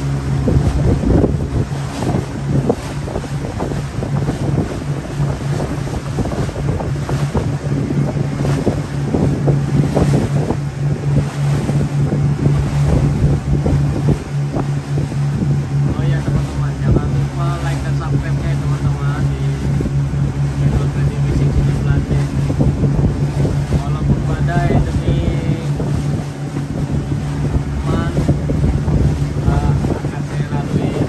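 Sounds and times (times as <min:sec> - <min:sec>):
boat engine running steadily: 0:00.0 - 0:31.0
water rushing past hull: 0:00.0 - 0:31.0
wind buffeting microphone: 0:00.0 - 0:31.0.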